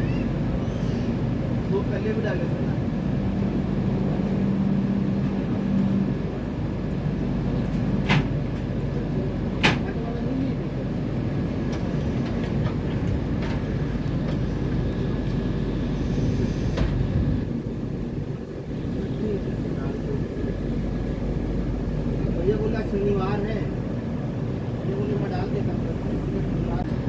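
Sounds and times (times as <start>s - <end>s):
train running low rumble: 0.0s - 27.0s.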